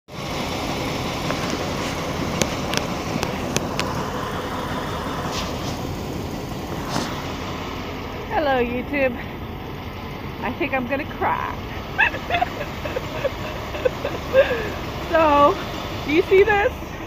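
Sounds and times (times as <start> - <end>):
motorhome engine running: 0.0 - 17.0.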